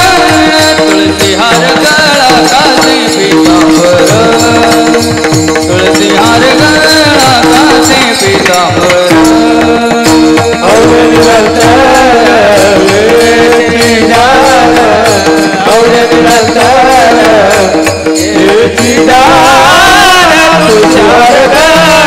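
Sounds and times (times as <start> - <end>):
voices singing devotional song: 0.0 - 22.0.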